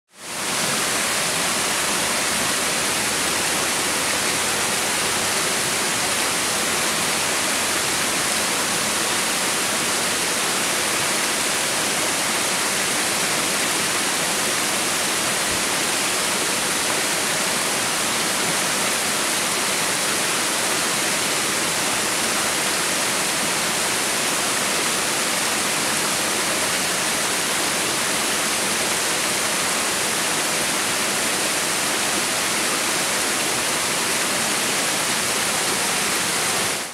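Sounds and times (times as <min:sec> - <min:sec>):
water rushing over a weir: 0:00.2 - 0:36.9.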